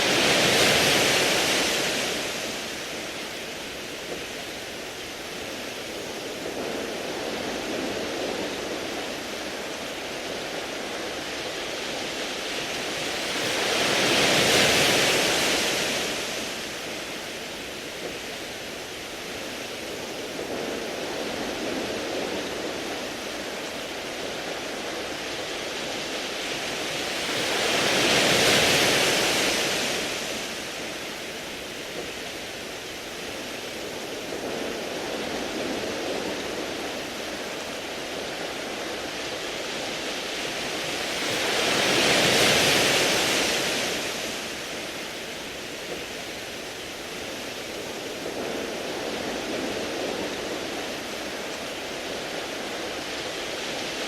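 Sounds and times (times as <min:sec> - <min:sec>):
waves on pebble beach: 0:00.0 - 0:54.0.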